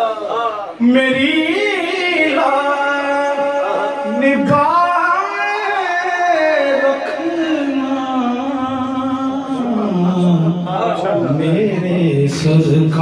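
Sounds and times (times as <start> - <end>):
man singing long held notes: 0.0 - 13.0.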